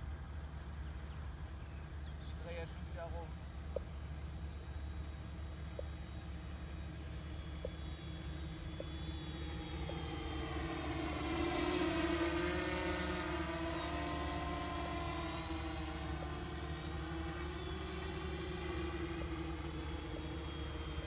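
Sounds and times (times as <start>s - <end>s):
drone propellers humming: 0.0s - 21.0s.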